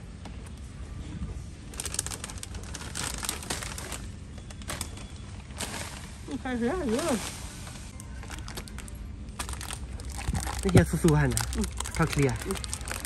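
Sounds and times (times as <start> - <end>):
low background hum: 0.0 - 13.0
plastic bags crinkling: 1.7 - 13.0.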